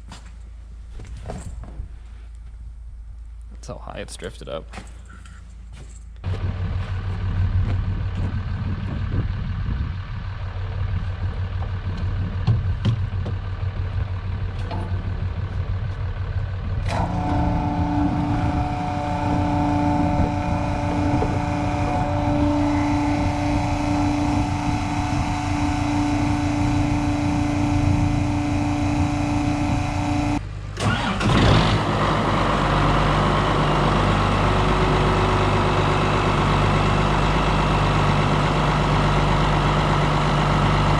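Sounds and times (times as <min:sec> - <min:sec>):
steady whine: 0:00.0 - 0:40.9
tractor engine rumbling: 0:00.0 - 0:40.9.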